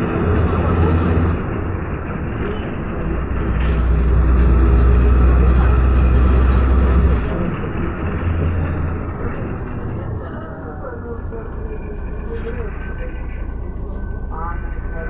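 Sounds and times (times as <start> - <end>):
bus diesel engine drone: 0.0 - 15.0
road noise: 0.0 - 15.0.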